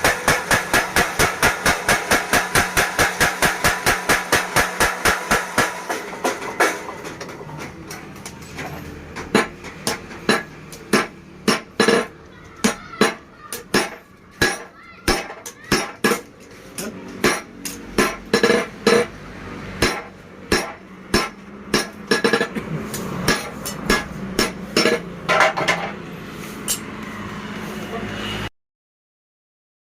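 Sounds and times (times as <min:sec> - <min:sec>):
hammer striking metal: 0:00.0 - 0:26.0, 0:26.6 - 0:27.0.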